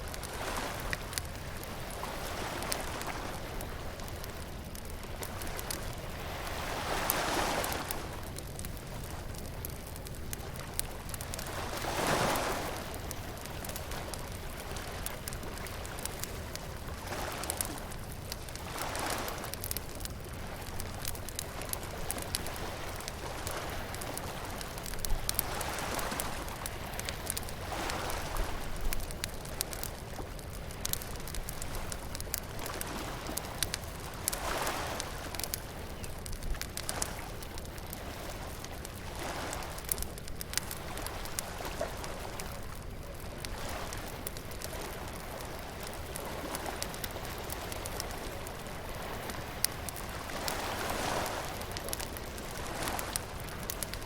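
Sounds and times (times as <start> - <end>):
bonfire crackling and popping: 0.0 - 54.0
waves washing on beach: 0.0 - 54.0.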